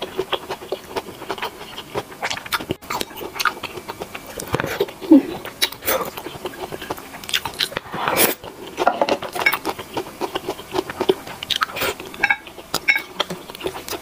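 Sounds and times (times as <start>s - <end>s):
wet chewing of noodles: 0.0s - 14.0s.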